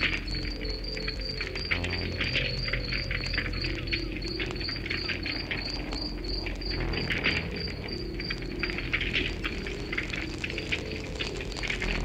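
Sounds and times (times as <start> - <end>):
cricket chirping: 0.0 - 12.0
wood fire crackling: 0.0 - 12.0.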